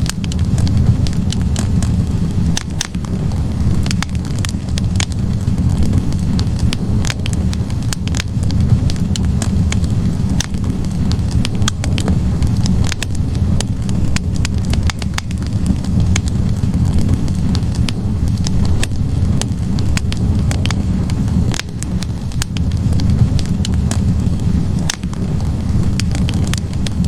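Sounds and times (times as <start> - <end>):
burning logs crackling: 0.0 - 27.0
fire roaring: 0.0 - 27.0.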